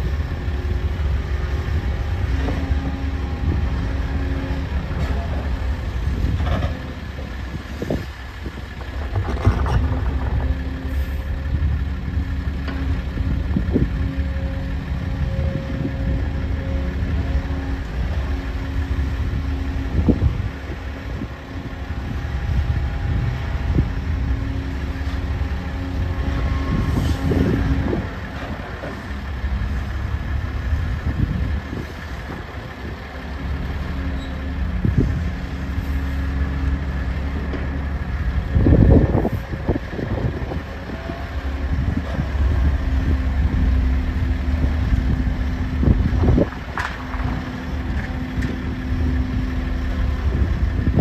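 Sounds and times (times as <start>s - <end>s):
excavator diesel engine working: 0.0s - 51.0s.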